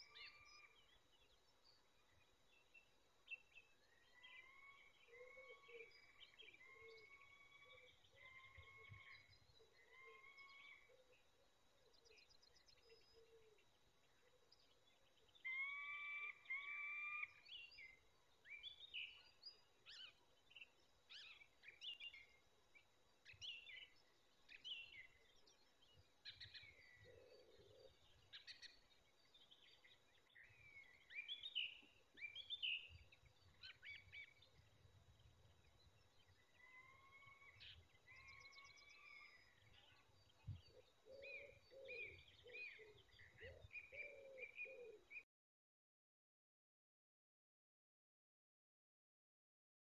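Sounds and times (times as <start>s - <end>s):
small birds chirping and singing: 0.0s - 45.3s.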